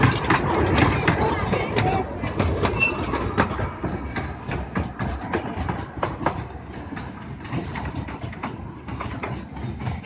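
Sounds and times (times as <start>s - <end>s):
miniature train rumbling: 0.0s - 10.0s
wheel clicks over rail joints: 0.0s - 10.0s.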